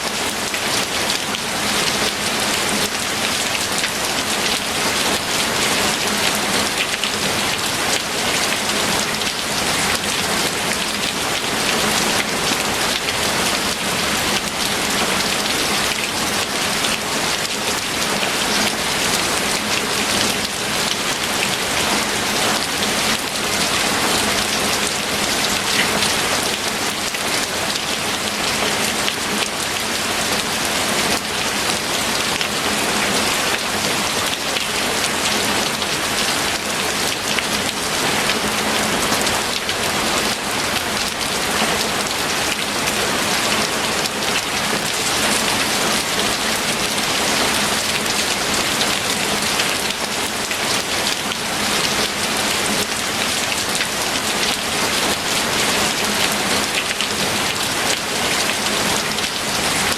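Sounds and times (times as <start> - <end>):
heavy rain on a surface: 0.0 - 59.9.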